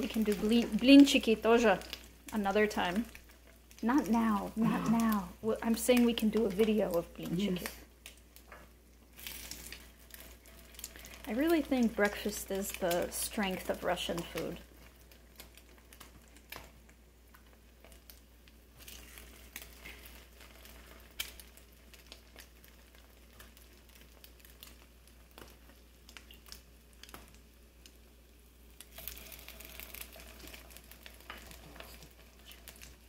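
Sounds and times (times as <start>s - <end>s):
bread sizzling in a skillet: 0.0s - 33.0s.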